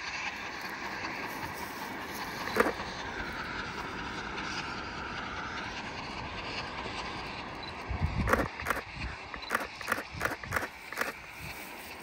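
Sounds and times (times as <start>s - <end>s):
train rolling past: 0.0s - 12.0s.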